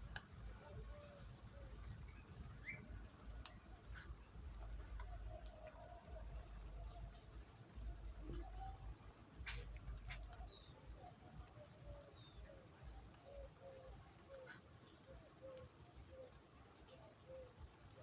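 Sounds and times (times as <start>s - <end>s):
birds chirping: 0.0s - 18.0s
low repeated bird notes: 0.0s - 18.0s.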